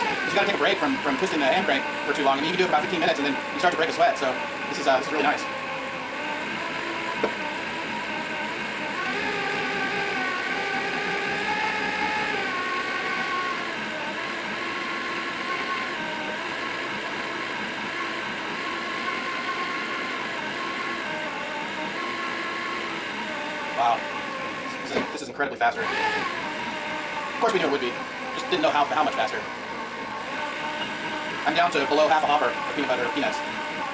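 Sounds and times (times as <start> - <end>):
electric drill motor whine: 0.0 - 33.9
grain mill grinding peanuts: 0.0 - 33.9.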